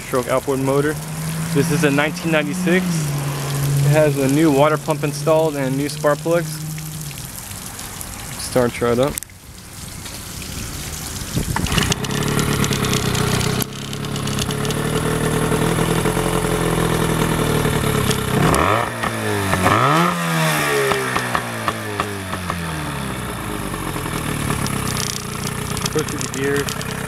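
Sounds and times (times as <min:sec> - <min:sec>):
outboard motor running: 0:00.0 - 0:09.1, 0:10.4 - 0:27.0.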